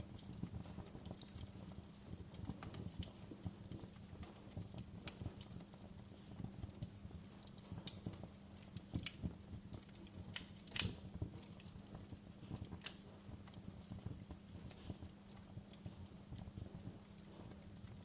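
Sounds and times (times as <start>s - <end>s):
fire snapping and popping: 0.0s - 18.0s
low steady hum: 0.0s - 18.0s.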